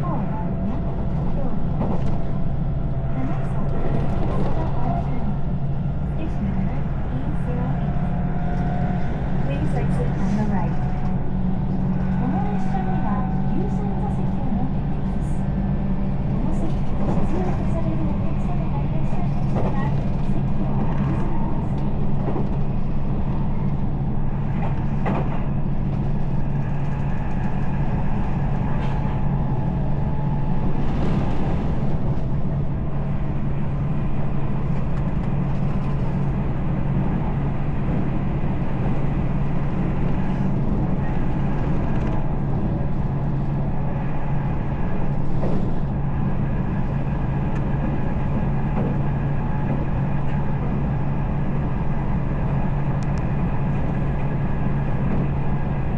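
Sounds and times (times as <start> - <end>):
passenger train running: 0.0 - 55.9.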